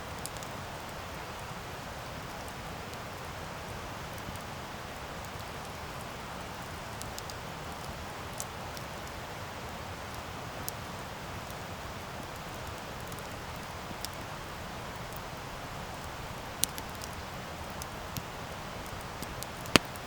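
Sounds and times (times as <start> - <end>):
burning wood crackling and popping: 0.1 - 9.4, 10.0 - 20.0
campfire flames rushing: 0.1 - 20.0.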